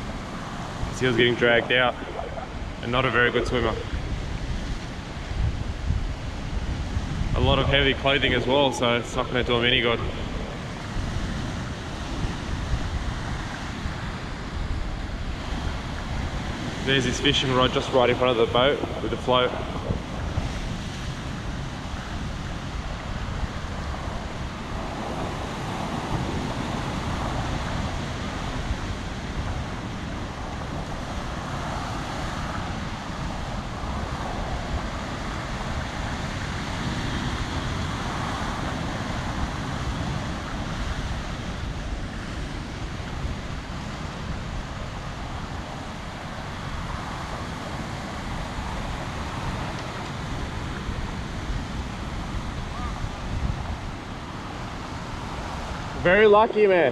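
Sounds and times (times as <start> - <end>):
ocean waves washing over rocks: 0.0 - 56.9
wind on microphone: 0.0 - 56.9.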